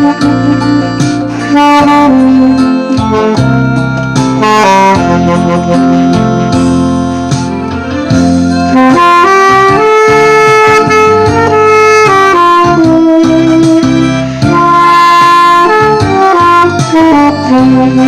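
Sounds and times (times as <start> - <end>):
instrumental accompaniment: 0.0 - 18.0
saxophone slow melody: 0.0 - 18.0.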